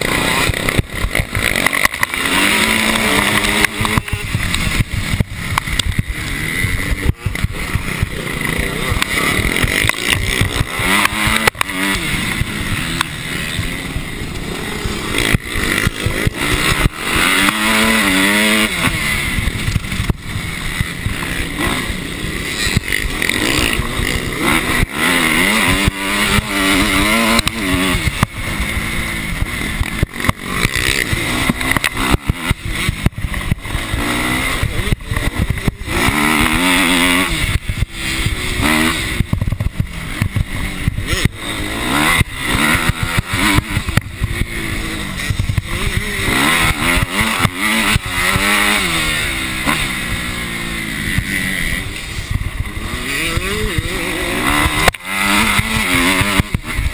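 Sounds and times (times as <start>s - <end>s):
motorbike engine revving: 0.0s - 56.9s
rough wind noise: 0.0s - 56.9s.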